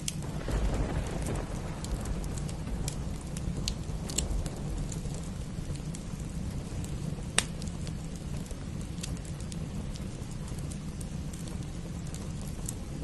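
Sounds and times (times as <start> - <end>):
steady rain: 0.0 - 13.0
wood fire crackling: 0.0 - 13.0
low rumble: 0.1 - 13.0.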